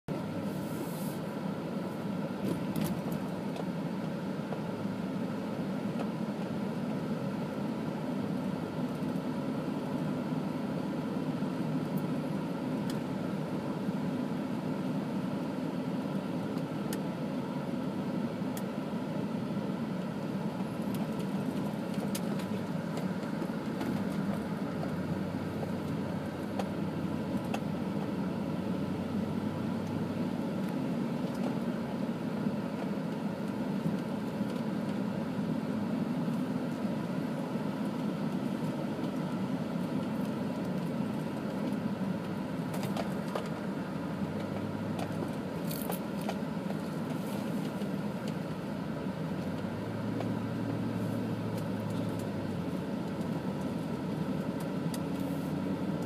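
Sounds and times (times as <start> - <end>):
car engine and tyre rumble: 0.1 - 56.0.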